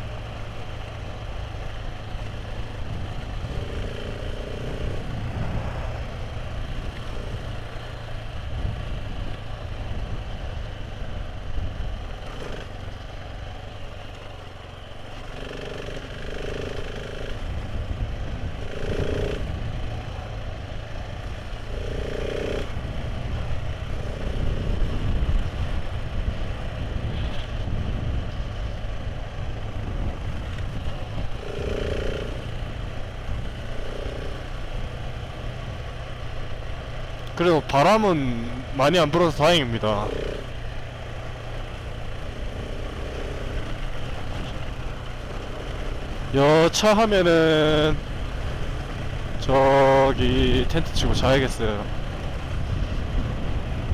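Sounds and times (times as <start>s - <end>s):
motorcycle engine running: 0.0s - 53.9s
road and wind noise: 0.0s - 53.9s.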